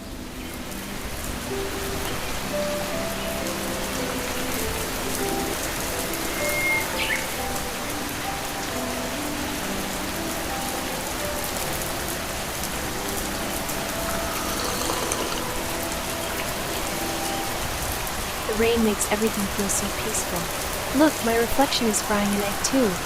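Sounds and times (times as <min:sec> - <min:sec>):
soft melodic notes: 0:00.0 - 0:23.0
steady rain: 0:00.0 - 0:23.0.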